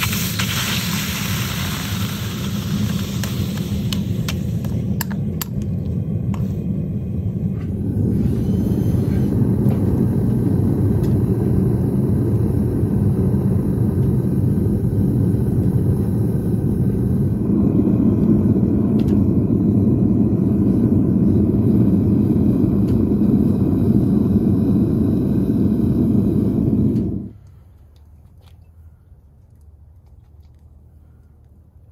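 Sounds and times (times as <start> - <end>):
gas furnace burner rumbling: 0.0 - 27.7.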